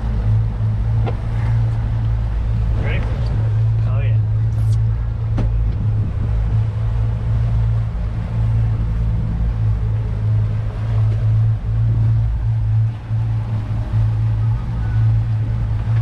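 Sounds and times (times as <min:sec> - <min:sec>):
outboard motors droning: 0:00.0 - 0:16.0
wind and water hiss: 0:00.0 - 0:16.0.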